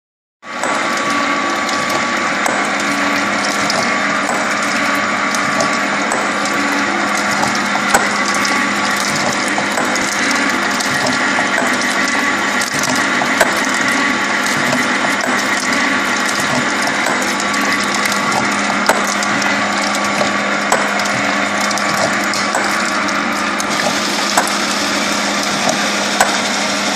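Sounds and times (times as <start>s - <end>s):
gear planer machine running: 0.5s - 26.9s
steady machine hum: 0.5s - 26.9s.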